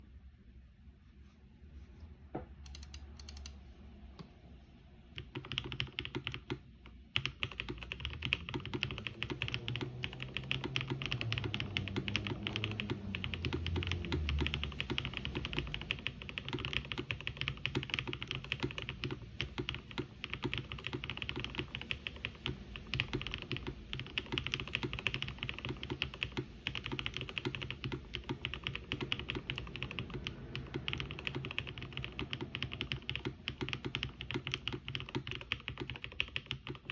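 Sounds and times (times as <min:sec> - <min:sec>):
fast mechanical keyboard typing: 0:02.6 - 0:03.6, 0:05.2 - 0:36.9.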